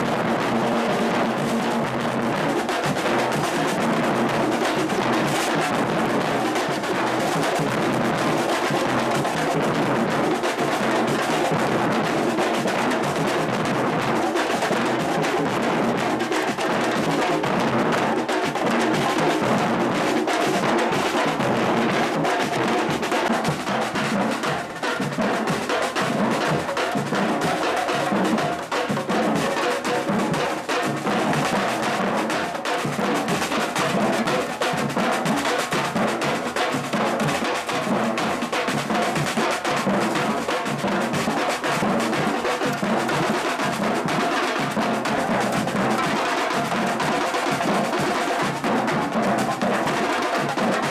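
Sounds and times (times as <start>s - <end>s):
many drums playing rhythm: 0.0s - 50.9s.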